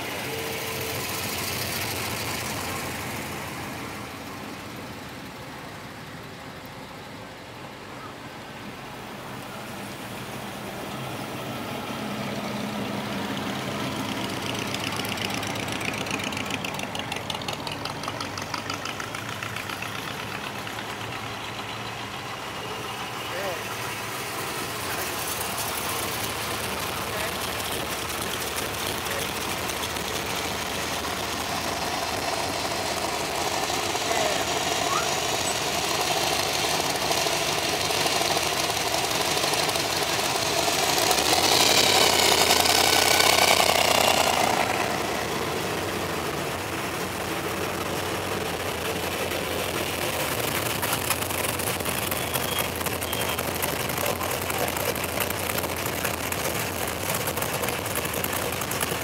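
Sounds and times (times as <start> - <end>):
car engines driving past: 0.0 - 59.0.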